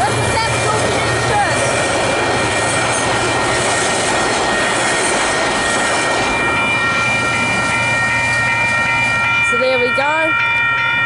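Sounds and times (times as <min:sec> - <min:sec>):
crossing bells ringing: 0:00.0 - 0:11.0
train wheels on rails: 0:00.0 - 0:11.0.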